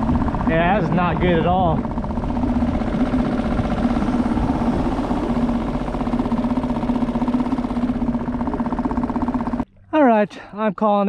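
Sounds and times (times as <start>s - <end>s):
small motor buzzing hum: 0.0s - 9.8s.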